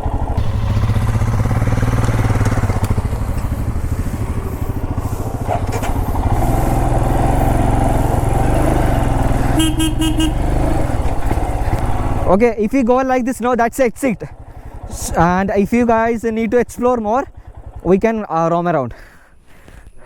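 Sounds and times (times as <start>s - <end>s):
motorcycle engine running: 0.0s - 18.7s.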